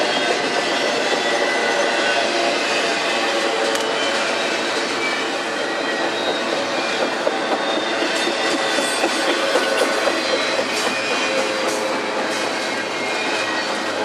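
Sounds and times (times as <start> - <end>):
high wheel squeals: 0.0 - 14.0
steel wheels rumbling on rail: 0.0 - 14.0.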